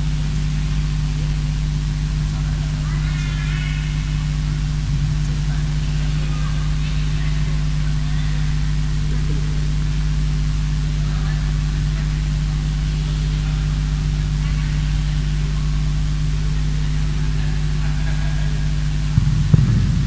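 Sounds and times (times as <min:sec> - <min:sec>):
low electrical hum: 0:00.0 - 0:20.0
sound system hiss: 0:00.0 - 0:20.0.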